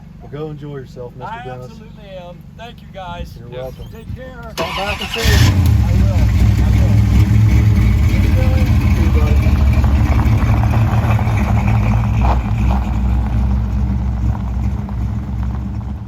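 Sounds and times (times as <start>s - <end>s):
car engine running deep: 0.0s - 16.0s.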